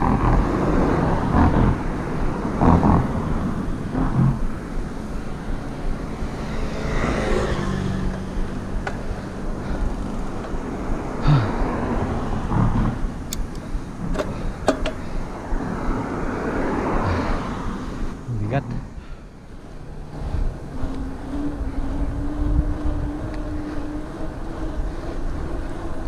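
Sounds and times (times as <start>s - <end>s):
cars passing: 0.0s - 26.0s
wind rushing over microphone: 0.0s - 26.0s.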